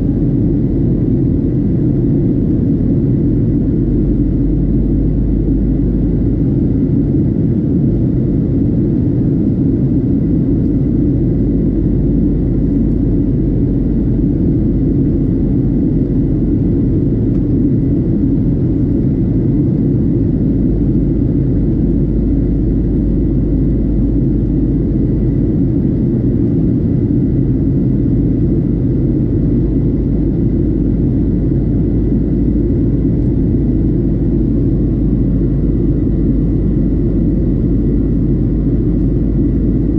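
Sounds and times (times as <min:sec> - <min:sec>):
jet engine deep roar: 0:00.0 - 0:39.9.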